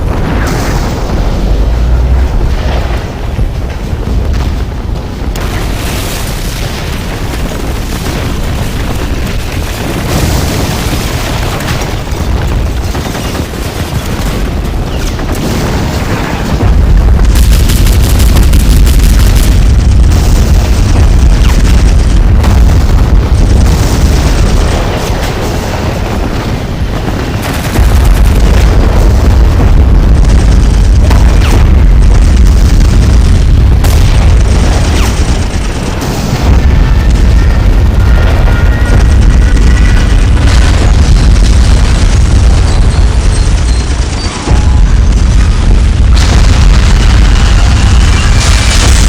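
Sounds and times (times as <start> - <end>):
bomb explosions rumbling: 0.0 - 49.0
rapid gunfire crackling: 0.0 - 49.0.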